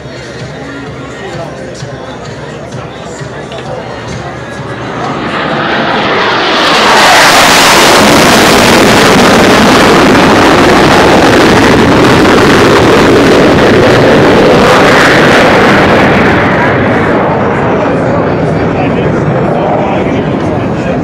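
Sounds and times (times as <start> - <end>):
jet aircraft roaring overhead: 0.0 - 21.0.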